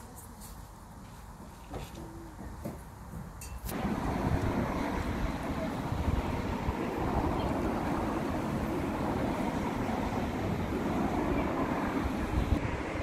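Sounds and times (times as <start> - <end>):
wind buffeting microphone: 2.4 - 13.0.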